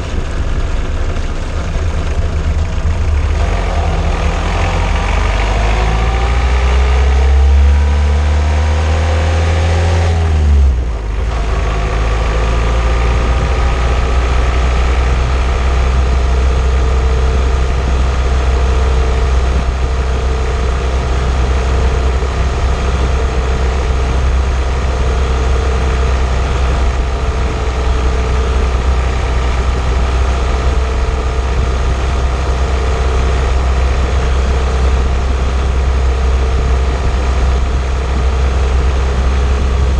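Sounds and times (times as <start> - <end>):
car engine climbing in pitch: 0.0 - 39.9
road and wind rumble: 0.0 - 39.9.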